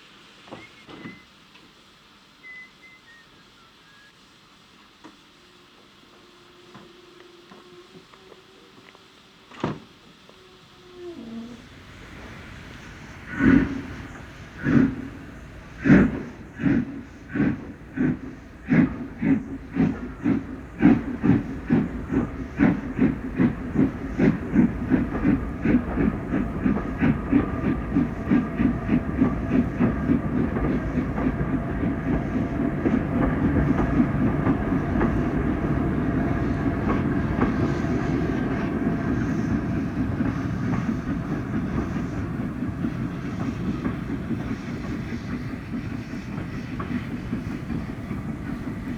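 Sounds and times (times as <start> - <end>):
steam locomotive chuffing: 0.0 - 48.9.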